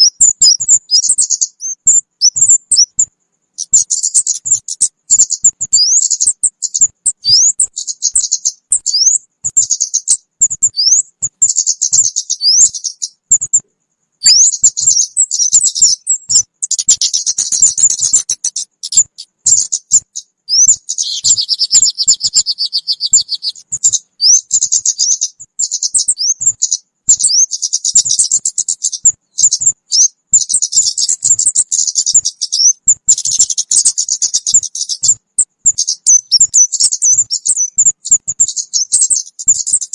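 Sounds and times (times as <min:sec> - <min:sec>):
bird chirps and whistles: 0:00.0 - 0:13.6, 0:14.2 - 0:39.9
buzzy bird trill: 0:00.0 - 0:13.6, 0:14.2 - 0:39.9.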